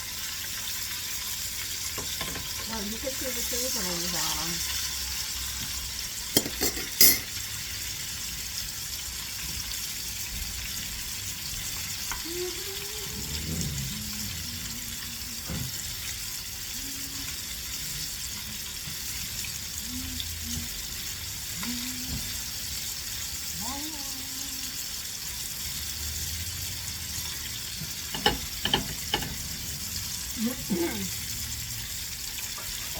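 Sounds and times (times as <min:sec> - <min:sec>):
food sizzling in hot oil: 0:00.0 - 0:32.9.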